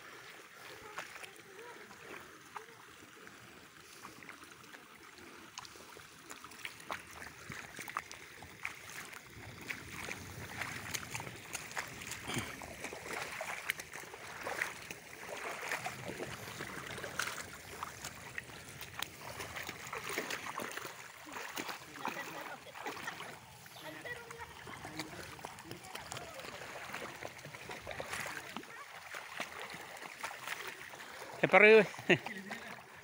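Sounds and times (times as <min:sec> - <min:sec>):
footsteps wading through water: 0:00.0 - 0:33.0.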